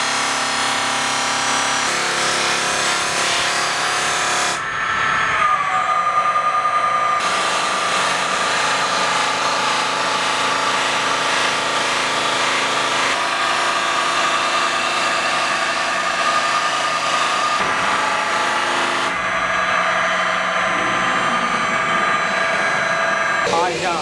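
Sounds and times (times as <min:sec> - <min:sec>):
polishing machine motor whine: 0:00.0 - 0:24.0.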